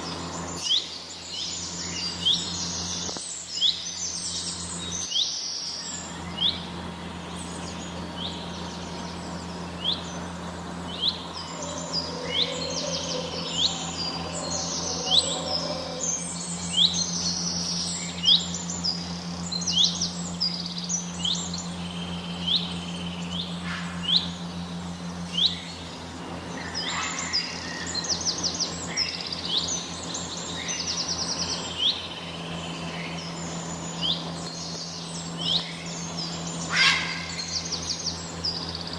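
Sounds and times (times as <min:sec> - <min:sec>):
small birds chirping: 0:00.0 - 0:38.9
steady low hum: 0:00.0 - 0:38.9.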